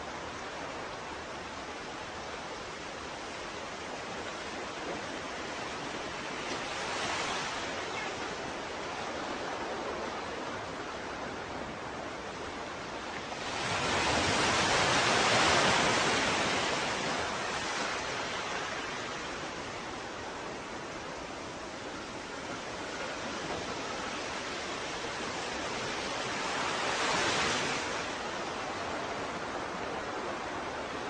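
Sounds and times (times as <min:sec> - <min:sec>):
ocean waves washing in: 0:00.0 - 0:31.0.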